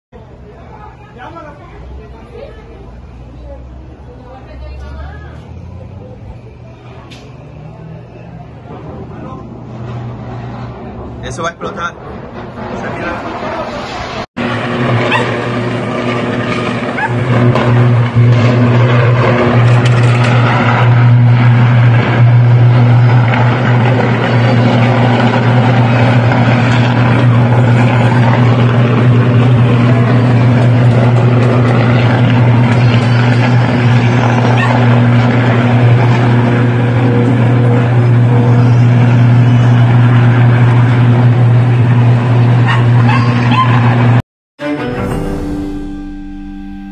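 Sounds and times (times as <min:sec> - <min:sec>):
transformer low hum: 0:00.2 - 0:46.9
rushing noise: 0:05.2 - 0:46.9.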